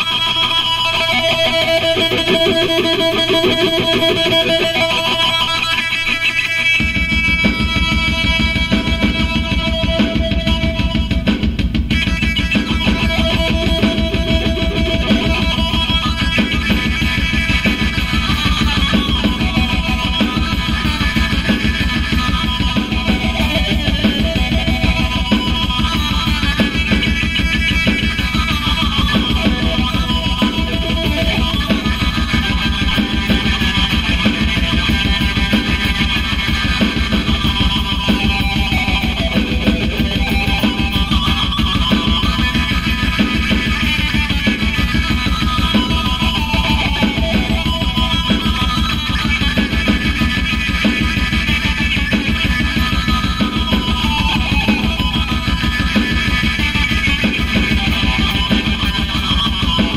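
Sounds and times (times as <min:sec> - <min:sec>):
heavy metal electric guitar: 0:00.0 - 0:59.9.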